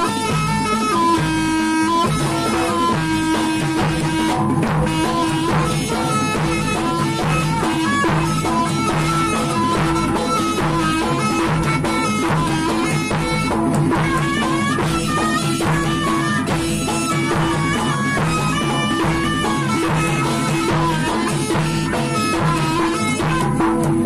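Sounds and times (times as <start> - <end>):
drums: 0.0 - 24.0
held drone tone: 0.0 - 24.0.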